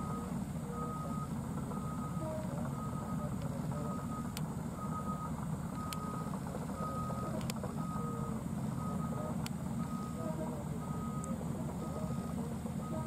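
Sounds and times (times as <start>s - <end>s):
back-up alarm beeping: 0.0s - 13.0s
diesel engines rumbling: 0.0s - 13.0s.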